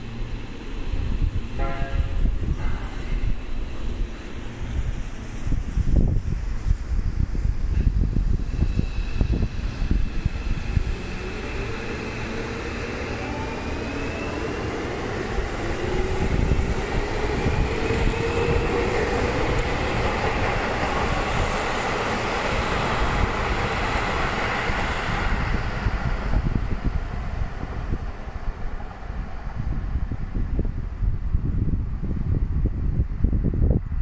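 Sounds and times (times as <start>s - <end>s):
wheels rumbling on rails: 0.0s - 34.0s
wind buffeting microphone: 0.2s - 34.0s.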